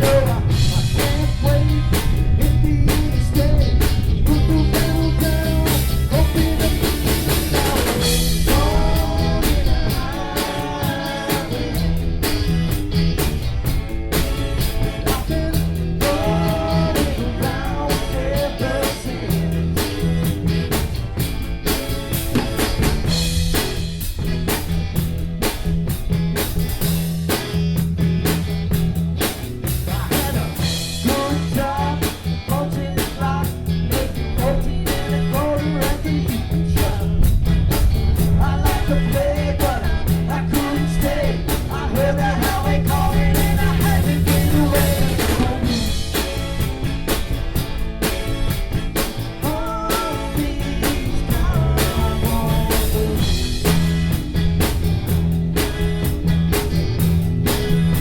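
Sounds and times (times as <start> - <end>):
bass guitar: 0.0 - 58.0
drum kit with rimshots: 0.0 - 58.0
electric guitar: 0.0 - 58.0.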